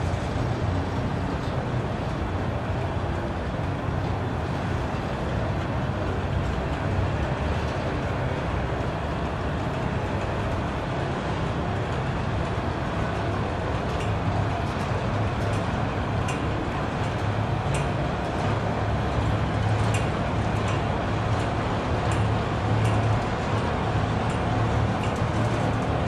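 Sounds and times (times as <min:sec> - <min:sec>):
freight train wheels rumbling on rail: 0:00.0 - 0:26.0.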